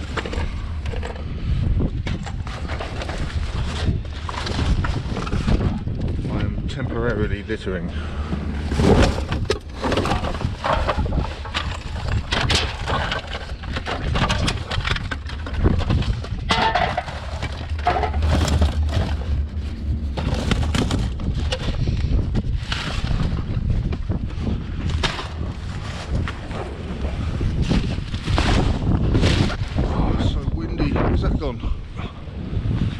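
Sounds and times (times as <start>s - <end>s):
rubbish rummaging and clattering: 0.0s - 30.0s
wind buffeting microphone: 0.0s - 32.9s.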